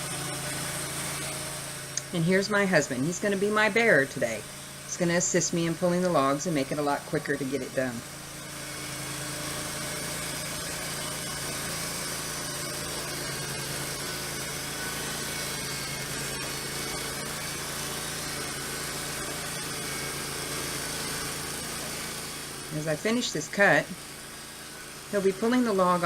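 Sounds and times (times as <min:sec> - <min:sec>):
band sawmill cutting log: 0:00.0 - 0:26.0.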